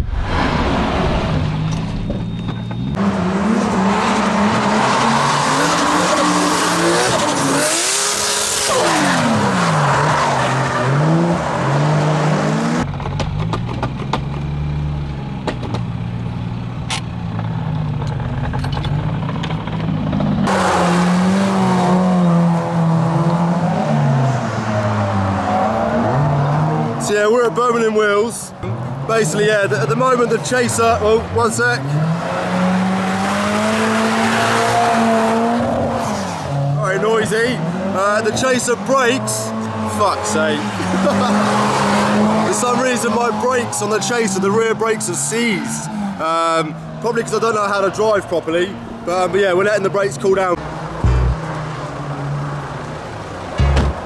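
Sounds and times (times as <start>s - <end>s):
car engine revving: 0.0s - 16.7s, 17.4s - 28.0s, 28.6s - 44.5s, 50.6s - 54.0s.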